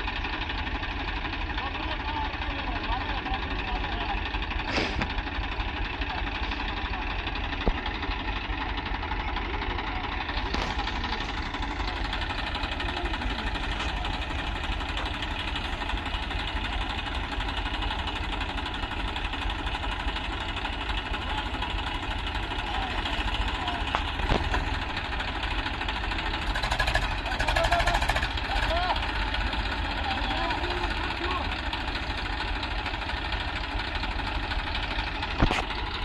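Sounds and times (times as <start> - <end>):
diesel tractor engine running: 0.0 - 36.0.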